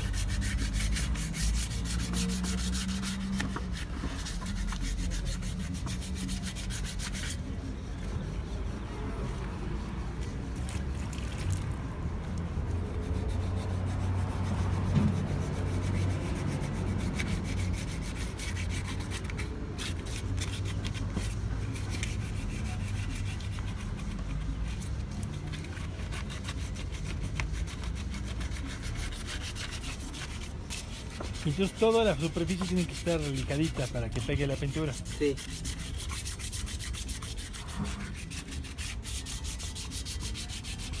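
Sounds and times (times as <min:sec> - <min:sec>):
sandpaper rubbing on metal: 0:00.0 - 0:41.0.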